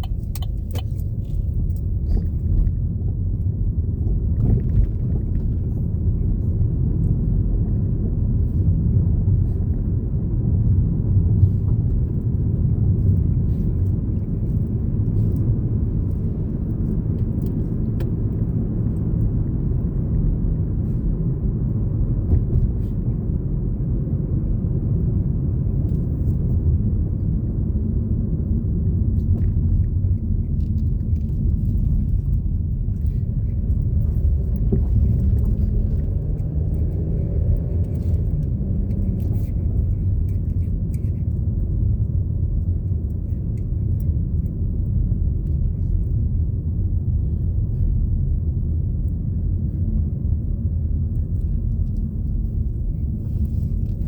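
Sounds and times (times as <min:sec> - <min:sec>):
vehicle road and engine rumble: 0:00.0 - 0:54.0.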